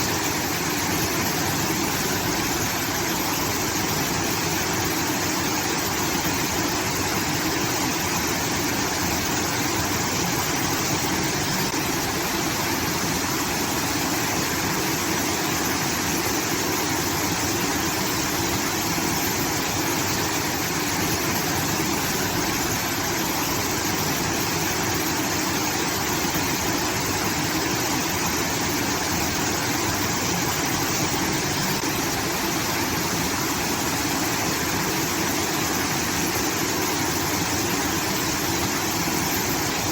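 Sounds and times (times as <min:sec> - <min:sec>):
water pouring and rushing: 0:00.0 - 0:39.9.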